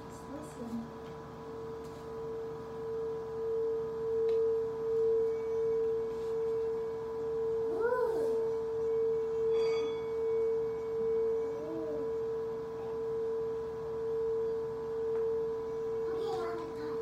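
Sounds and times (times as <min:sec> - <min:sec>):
singing bowl pulsing tone: 0:01.5 - 0:17.0.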